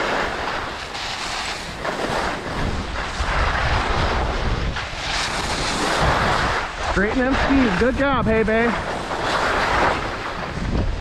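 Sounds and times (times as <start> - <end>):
skis scraping over snow: 0.0 - 11.0
wind on microphone: 0.0 - 11.0.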